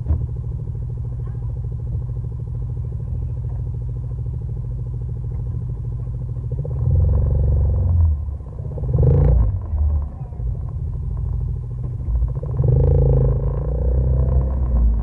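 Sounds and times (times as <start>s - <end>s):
vehicle engine idling and revving: 0.0s - 15.0s.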